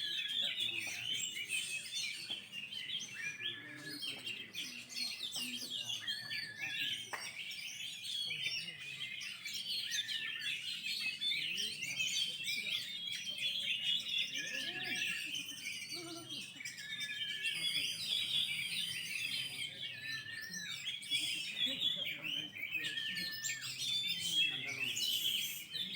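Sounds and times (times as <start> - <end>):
songbirds chirping and trilling: 0.0 - 25.9.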